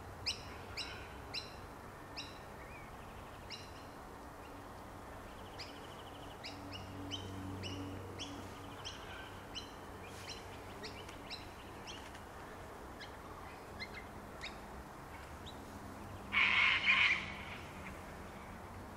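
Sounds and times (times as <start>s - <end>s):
wild birds chirping: 0.2s - 18.9s.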